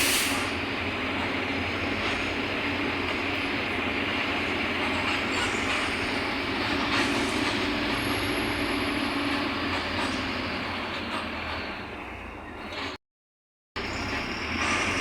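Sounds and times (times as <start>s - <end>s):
bus engine drone: 0.0s - 13.0s, 13.8s - 15.0s
road and body rumble: 0.0s - 13.0s, 13.8s - 15.0s.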